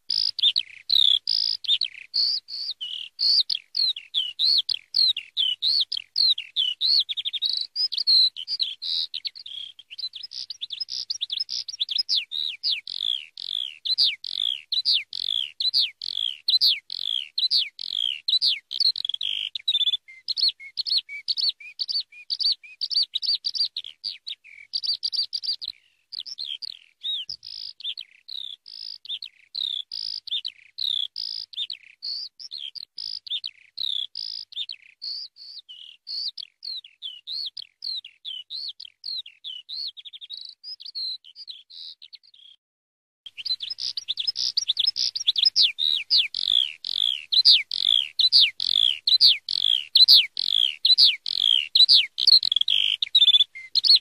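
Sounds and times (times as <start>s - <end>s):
skylark singing: 0.0s - 42.6s, 43.3s - 54.0s.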